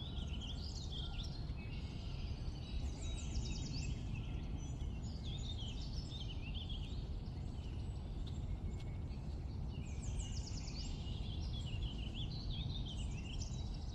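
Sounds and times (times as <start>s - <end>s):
songbirds twittering: 0.0s - 13.9s.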